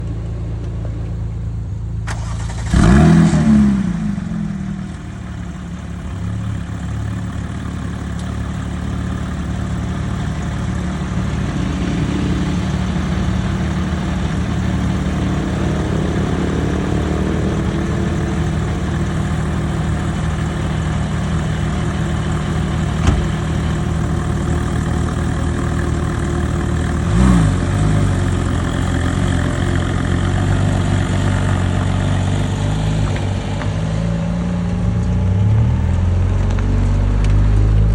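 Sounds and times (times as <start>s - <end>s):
car engine starting and idling: 0.0s - 37.9s.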